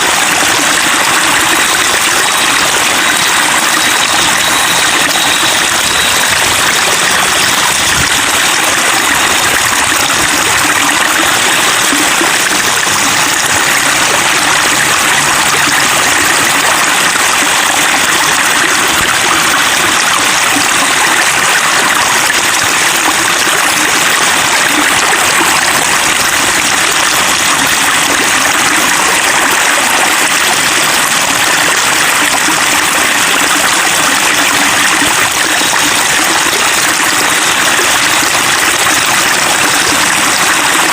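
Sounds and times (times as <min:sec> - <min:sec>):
water splashing over rocks: 0:00.0 - 0:40.9.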